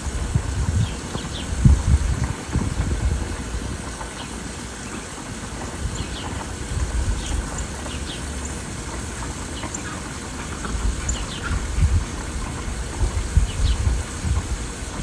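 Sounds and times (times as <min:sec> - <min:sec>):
low uneven rumble: 0:00.0 - 0:15.0
songbirds chirping: 0:00.1 - 0:15.0.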